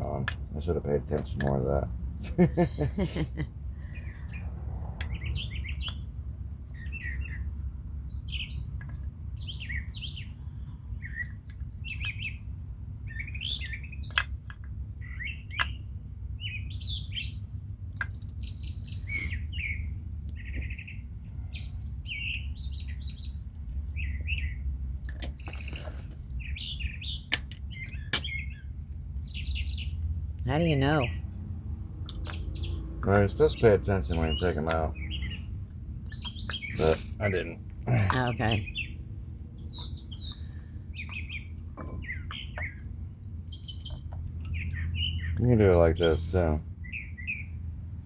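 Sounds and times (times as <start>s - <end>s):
small birds chirping: 0.0s - 48.0s
steady low rumble: 0.0s - 48.0s.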